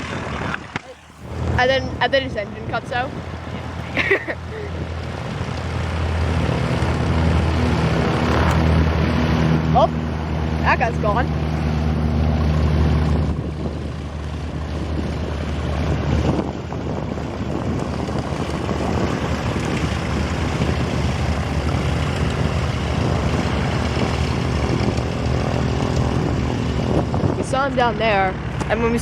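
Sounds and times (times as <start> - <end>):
light aircraft piston engine: 0.0 - 29.0.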